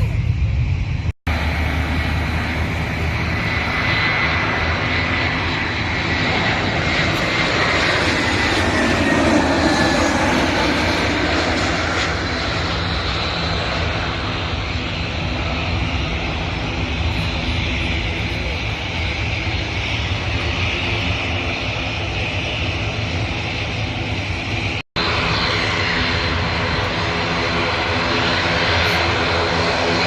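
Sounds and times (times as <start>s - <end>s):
high engine whine: 0.0s - 30.0s
jet engines roaring past: 0.0s - 30.0s.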